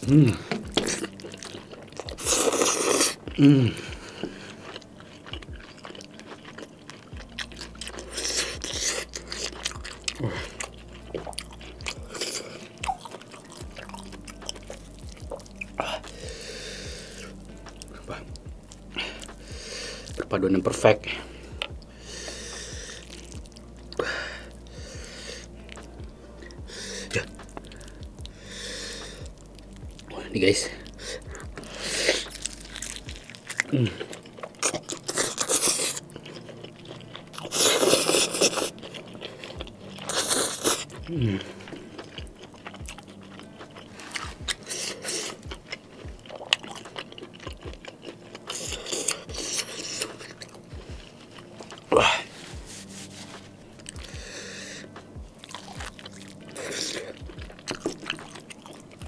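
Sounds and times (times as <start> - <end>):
chewing: 0.0 - 59.0
wet sticky squishing of noodles: 0.0 - 59.0.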